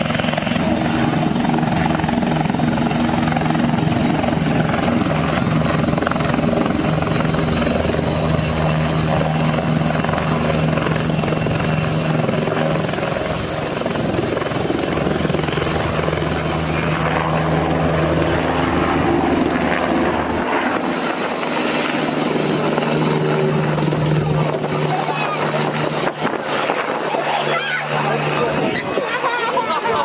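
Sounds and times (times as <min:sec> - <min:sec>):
helicopter rotor noise: 0:00.0 - 0:30.0
high turbine whine: 0:00.0 - 0:30.0.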